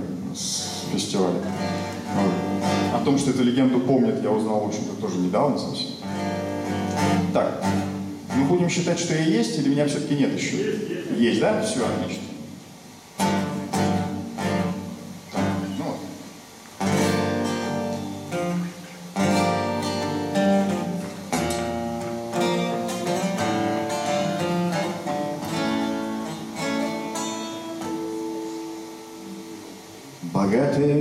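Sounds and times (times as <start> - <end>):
acoustic guitar chords: 0.0 - 31.0.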